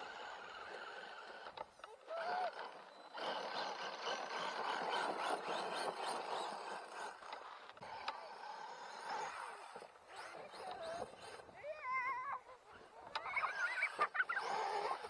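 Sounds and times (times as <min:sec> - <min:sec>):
rc truck motor whine: 0:00.0 - 0:15.0.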